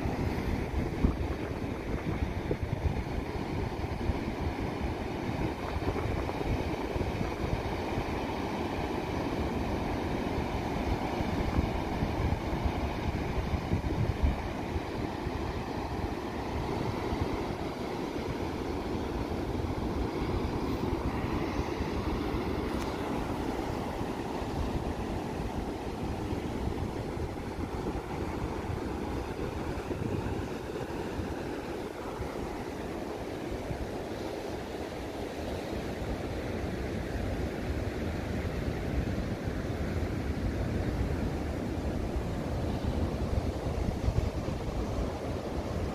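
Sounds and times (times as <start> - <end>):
ocean surf breaking: 0.0 - 45.9
wind rumbling on microphone: 0.0 - 45.9.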